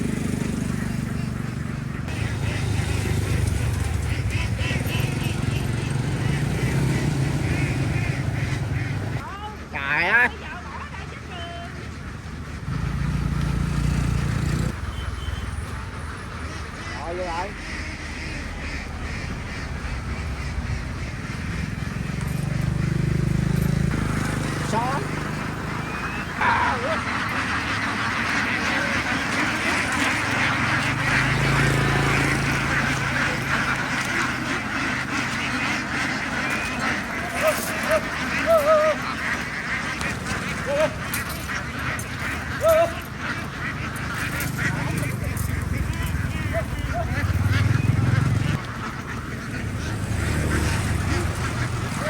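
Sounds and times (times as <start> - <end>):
flock of ducks quacking: 0.0 - 52.0
loud single duck calls: 2.1 - 9.4, 14.2 - 22.1, 23.5 - 52.0.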